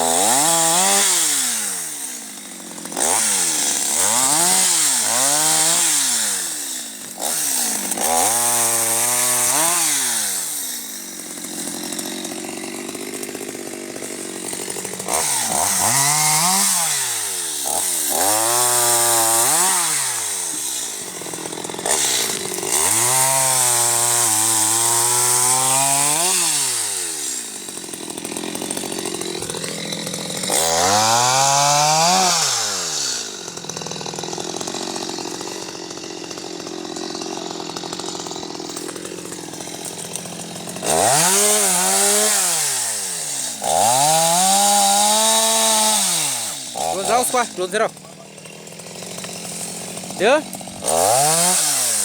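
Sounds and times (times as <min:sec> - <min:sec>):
chainsaw revving: 0:00.0 - 0:52.0.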